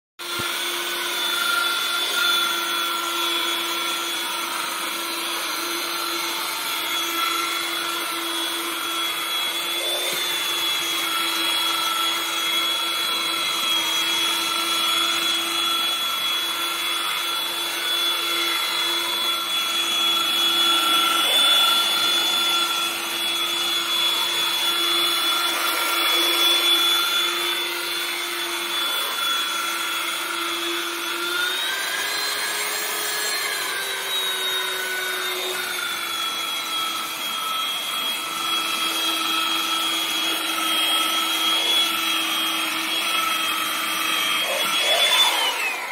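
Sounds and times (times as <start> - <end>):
sanding machine motor whine: 0.2 - 45.9.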